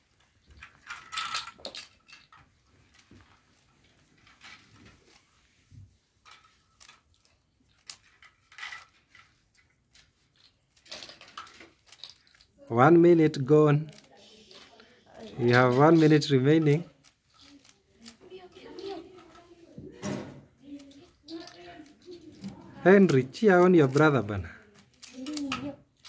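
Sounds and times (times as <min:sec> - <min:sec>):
puzzle cube clicking and rattling: 0:00.5 - 0:03.0, 0:06.2 - 0:19.7, 0:20.5 - 0:26.0.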